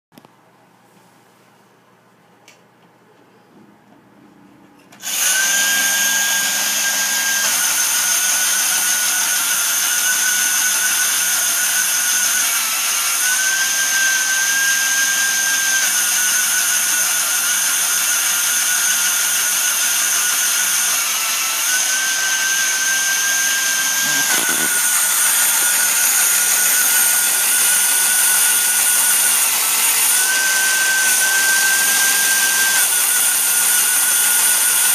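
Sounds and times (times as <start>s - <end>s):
toy jet whining and hissing: 5.0s - 34.9s.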